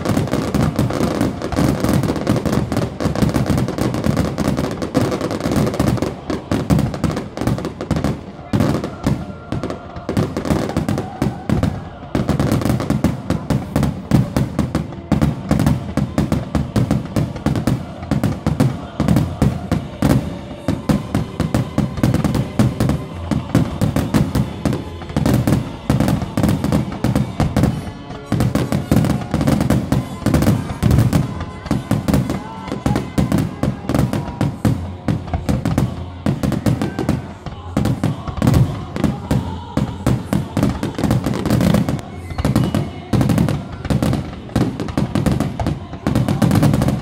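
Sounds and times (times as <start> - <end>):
fireworks bursting and crackling: 0.0 - 47.0.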